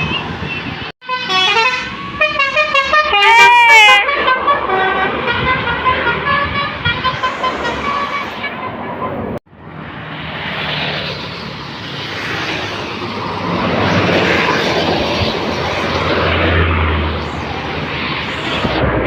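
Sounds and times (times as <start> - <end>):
bus passing by: 0.0 - 19.0.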